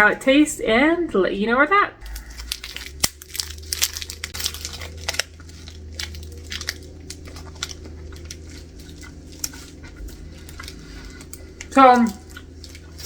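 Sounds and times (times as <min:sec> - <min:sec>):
plastic package crinkling: 0:02.0 - 0:13.0.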